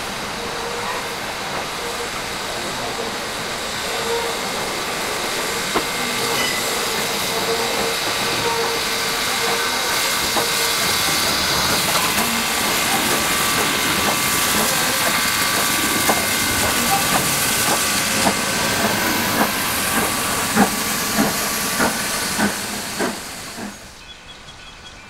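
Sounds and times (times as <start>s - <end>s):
steam hissing: 0.0s - 24.0s.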